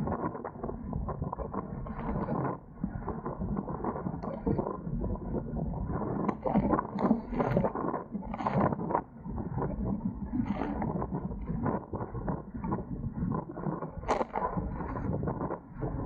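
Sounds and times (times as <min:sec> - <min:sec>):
water splashing and gurgling: 0:00.0 - 0:16.0.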